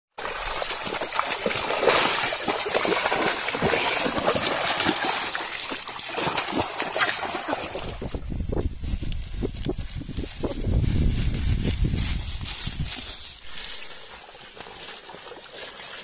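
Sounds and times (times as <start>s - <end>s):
water splashing in shallow mud: 0.1s - 16.0s.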